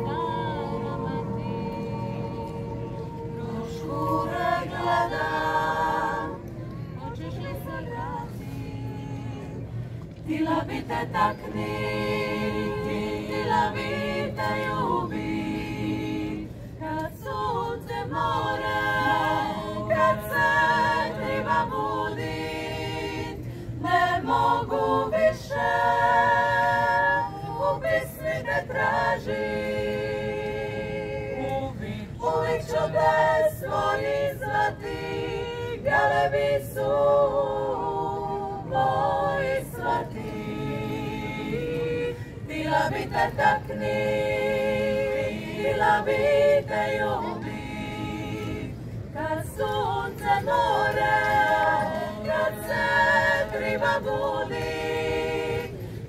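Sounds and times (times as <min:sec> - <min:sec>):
women singing in harmony: 0:00.0 - 0:56.0.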